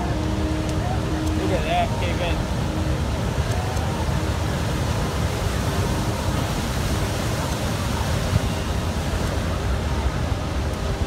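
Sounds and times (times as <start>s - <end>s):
heavy surf on rocky shore: 0.0s - 11.0s.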